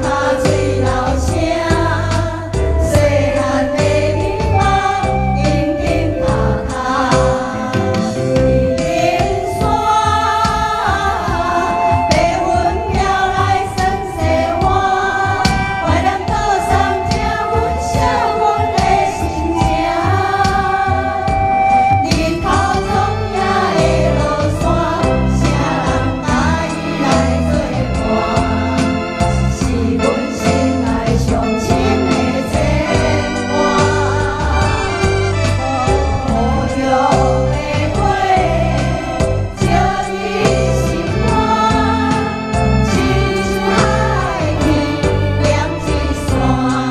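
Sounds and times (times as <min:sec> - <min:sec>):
instrumental accompaniment with beat: 0:00.0 - 0:46.9
voices singing: 0:00.0 - 0:46.9.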